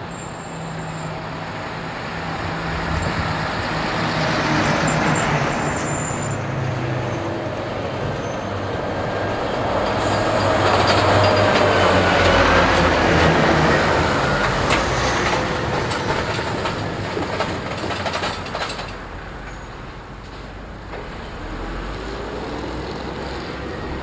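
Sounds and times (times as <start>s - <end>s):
tyre and road noise: 0.0s - 24.0s.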